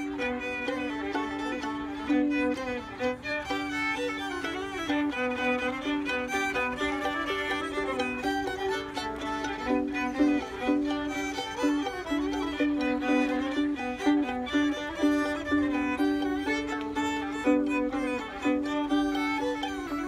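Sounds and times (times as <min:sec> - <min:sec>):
fiddles playing a tune: 0:00.0 - 0:20.0.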